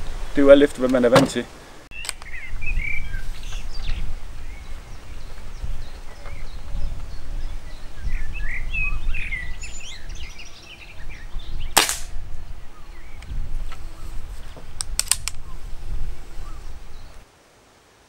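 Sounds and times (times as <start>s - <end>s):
songbirds chirping: 0.0s - 17.3s.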